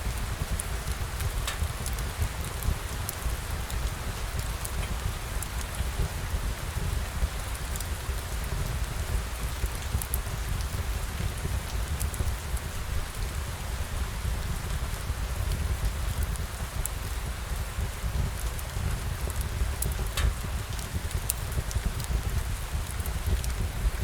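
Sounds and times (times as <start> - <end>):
steady rain hissing: 0.0 - 24.0
individual raindrops ticking: 0.2 - 14.0, 14.6 - 23.8.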